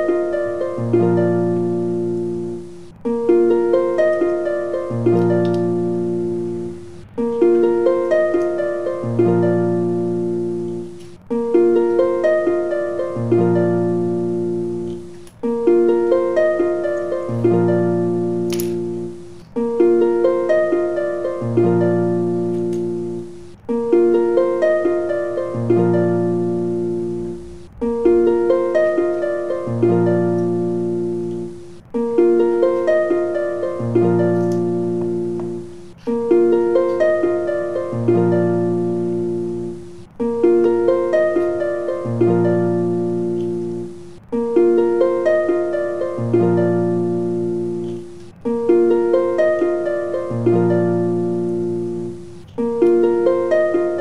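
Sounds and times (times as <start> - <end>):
looping plucked-string music: 0.0 - 54.0.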